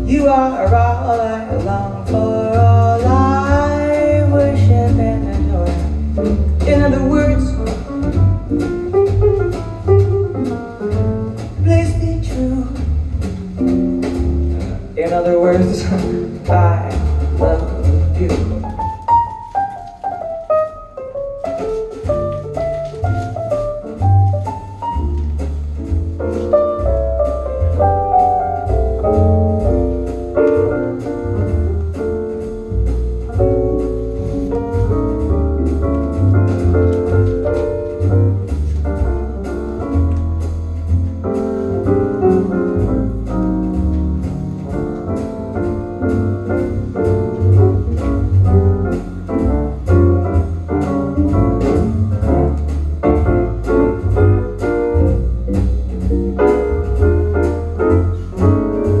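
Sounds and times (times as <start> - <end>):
piano: 0.0 - 59.0
walking double bass: 0.0 - 59.0.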